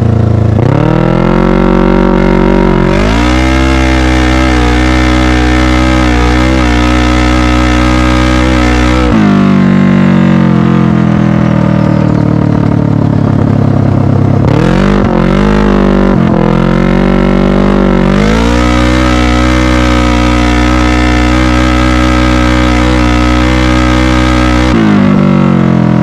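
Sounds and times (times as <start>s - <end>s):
loud engine running: 0.0s - 26.0s.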